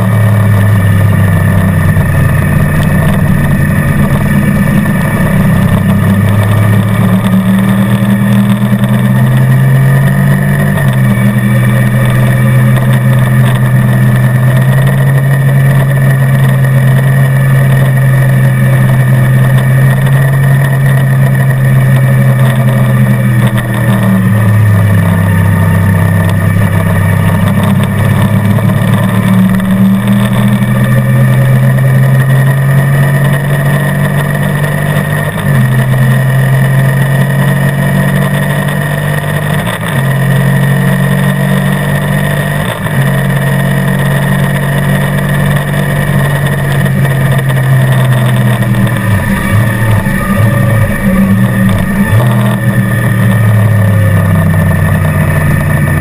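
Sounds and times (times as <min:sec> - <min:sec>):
motorcycle engine running hard: 0:00.0 - 0:56.0.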